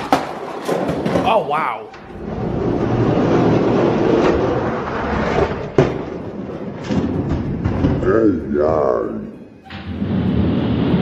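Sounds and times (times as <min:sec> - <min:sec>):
toy trucks rolling on track: 0:00.0 - 0:11.0.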